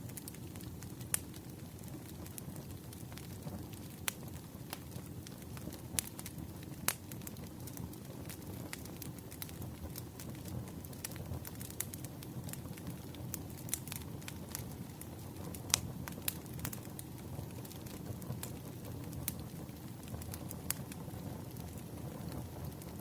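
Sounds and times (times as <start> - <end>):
wood fire popping and snapping: 0.0 - 23.0.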